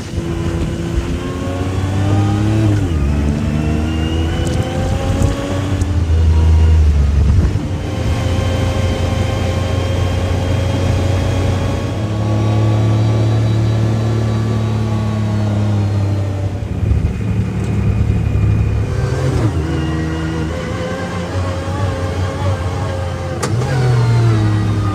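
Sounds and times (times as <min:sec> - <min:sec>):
utility vehicle engine revving: 0:00.0 - 0:24.9.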